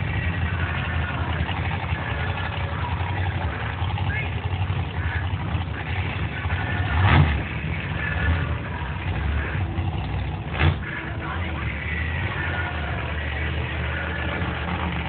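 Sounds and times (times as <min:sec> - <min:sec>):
loud engine bursts: 0:00.0 - 0:15.0
monster truck engine rumbling: 0:00.0 - 0:15.0.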